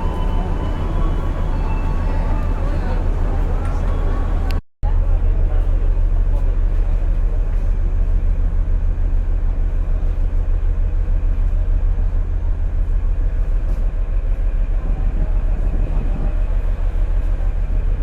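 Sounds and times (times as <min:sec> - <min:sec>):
train rumbling in motion: 0:00.0 - 0:18.0.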